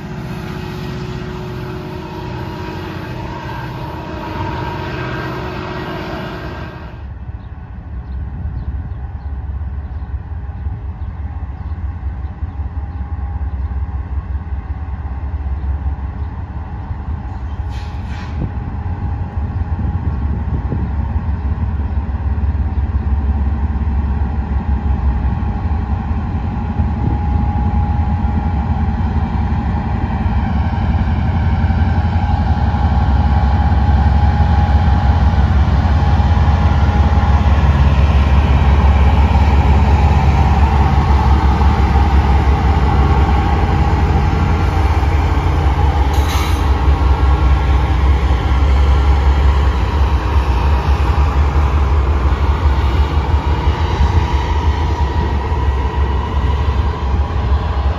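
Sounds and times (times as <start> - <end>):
diesel locomotive engines drone: 0.0 - 57.9.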